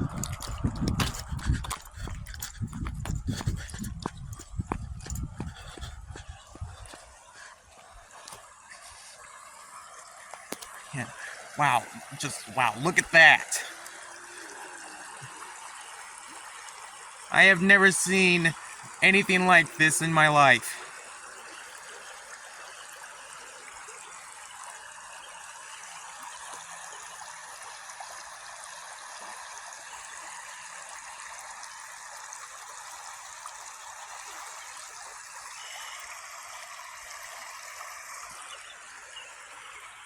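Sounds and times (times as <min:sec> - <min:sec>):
floodwater rushing: 0:00.0 - 0:24.7, 0:27.4 - 0:40.0.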